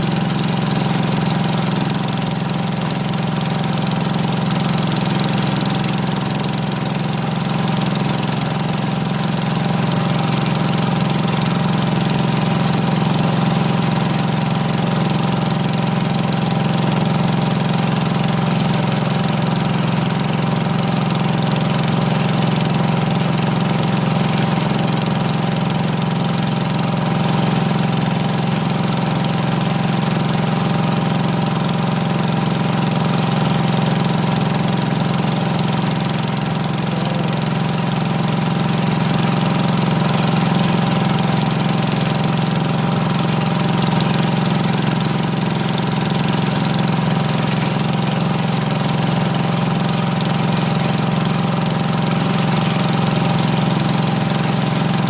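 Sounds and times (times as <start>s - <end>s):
garden tractor engine running: 0.0s - 55.0s
plow blade pushing snow: 0.0s - 55.0s.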